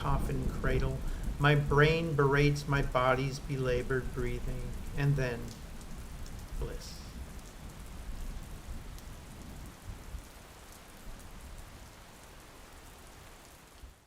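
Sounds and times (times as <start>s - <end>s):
raindrop clicks: 0.0s - 13.9s
steady rain: 0.0s - 14.0s.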